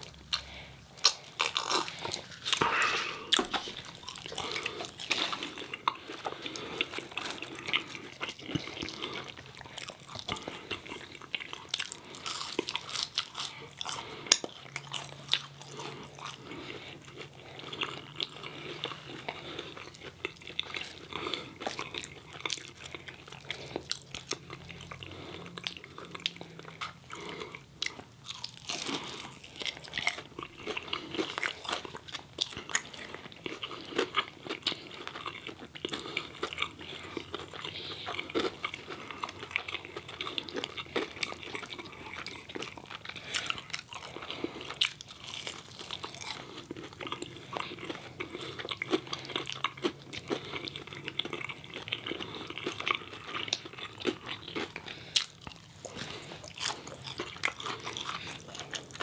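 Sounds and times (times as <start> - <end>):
people chewing crunchy food: 0.0 - 59.0.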